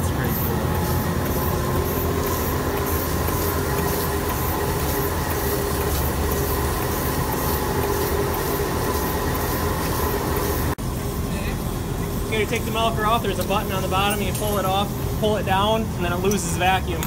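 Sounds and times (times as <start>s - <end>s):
pulsator rhythmic hissing pulse: 0.0s - 17.0s
vacuum pump humming: 0.0s - 17.0s.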